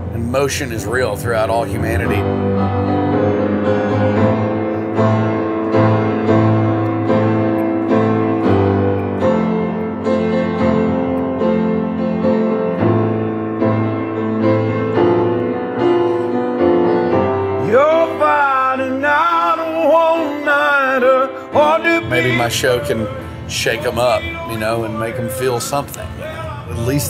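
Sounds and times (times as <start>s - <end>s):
piano playing slow chords: 0.0s - 27.0s.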